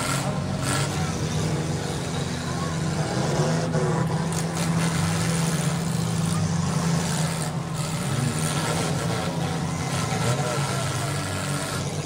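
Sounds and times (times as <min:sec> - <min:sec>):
car engines droning: 0:00.0 - 0:12.0
engine revving: 0:00.0 - 0:12.0.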